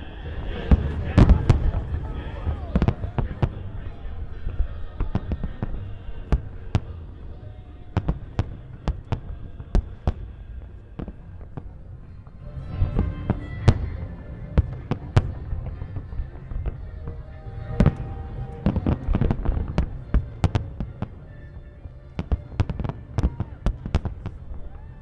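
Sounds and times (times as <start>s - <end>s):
low rumble: 0.0s - 25.0s
fireworks bangs: 0.4s - 24.9s.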